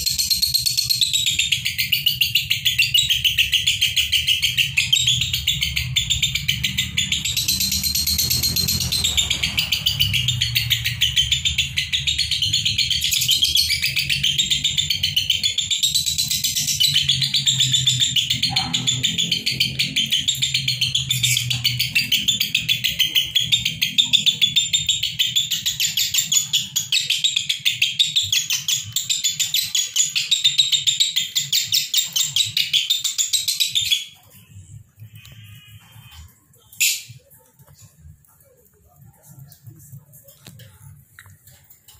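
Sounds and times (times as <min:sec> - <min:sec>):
lovebirds chirping shrilly: 0:00.0 - 0:37.3.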